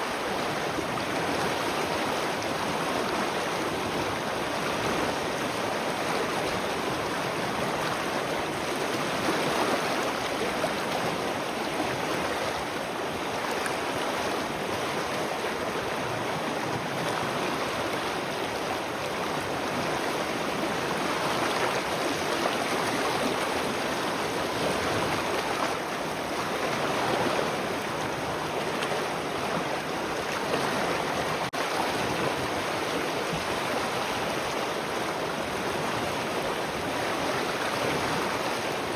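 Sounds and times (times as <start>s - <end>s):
water flowing and splashing: 0.0s - 38.9s.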